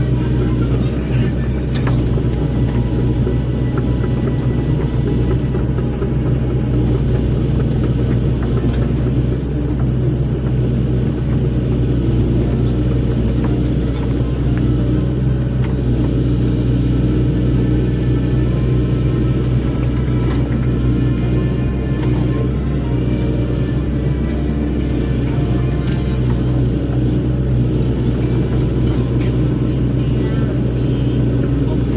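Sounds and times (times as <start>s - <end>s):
heavy diesel engine running: 0.0s - 31.9s.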